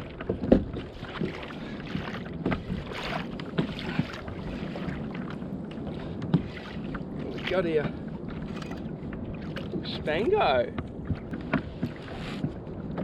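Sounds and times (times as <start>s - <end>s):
water sloshing around kayak: 0.0s - 13.0s.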